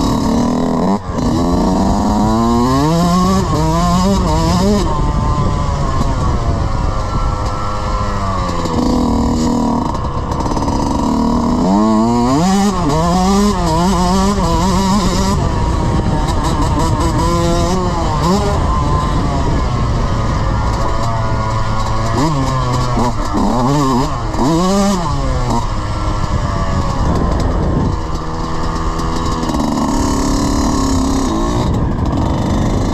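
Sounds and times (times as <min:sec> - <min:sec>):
dirt bike engine revving: 0:00.0 - 0:32.9
wind and ground noise: 0:00.0 - 0:32.9.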